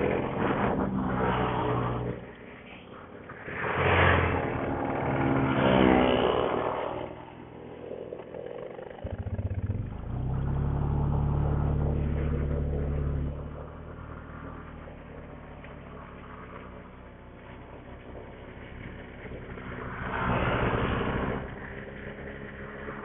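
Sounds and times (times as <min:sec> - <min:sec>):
engine sputter: 0:02.9 - 0:23.0
motorcycle engine revving: 0:03.1 - 0:23.0.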